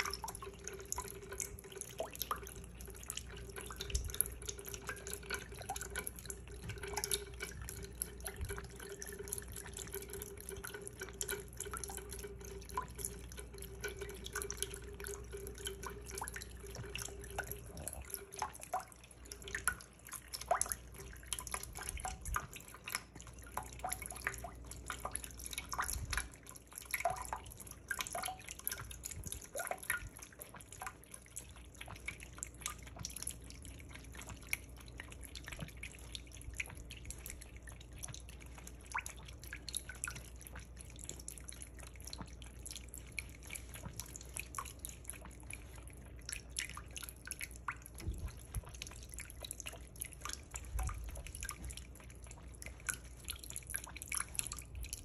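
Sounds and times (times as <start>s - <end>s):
cat lapping water: 0.0s - 55.0s
water drips and splashes: 0.0s - 55.0s
water running from faucet: 0.0s - 55.0s.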